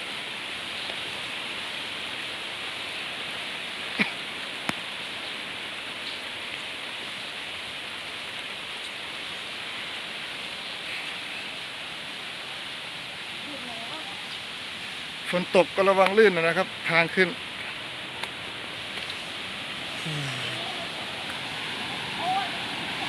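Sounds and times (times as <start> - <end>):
rain: 0.0 - 23.0
waterfall rushing: 0.0 - 23.0.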